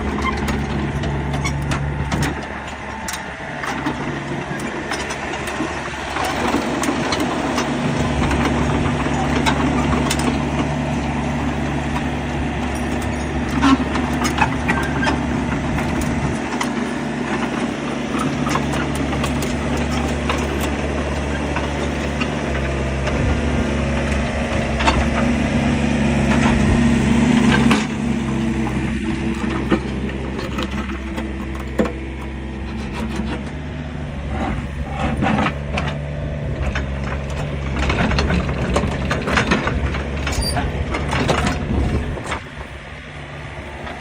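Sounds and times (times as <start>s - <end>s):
diesel excavator engine running: 0.0s - 44.0s.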